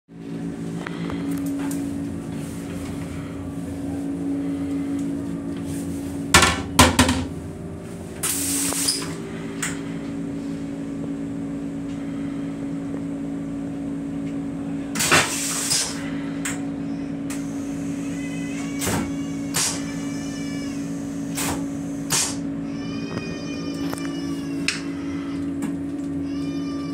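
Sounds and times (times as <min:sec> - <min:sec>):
equipment hum: 0:00.1 - 0:26.9.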